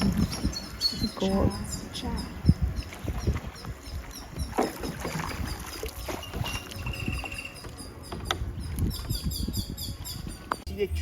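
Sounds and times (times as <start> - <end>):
water sloshing around a raft: 0.0 - 9.3.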